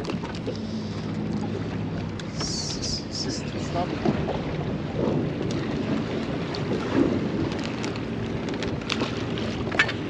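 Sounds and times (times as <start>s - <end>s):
water washing against boat hull: 0.0s - 10.0s.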